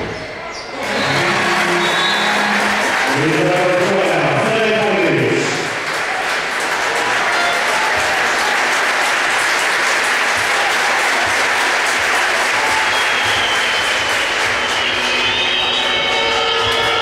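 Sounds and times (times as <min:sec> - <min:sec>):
crowd applauding: 0:00.7 - 0:17.0.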